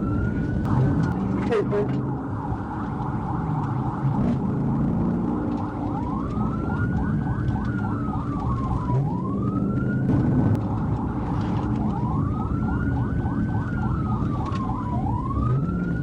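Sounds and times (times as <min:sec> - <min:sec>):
car engine and road noise: 0:00.0 - 0:16.0
police siren wailing: 0:00.0 - 0:16.0
rapid yelping siren: 0:00.0 - 0:16.0.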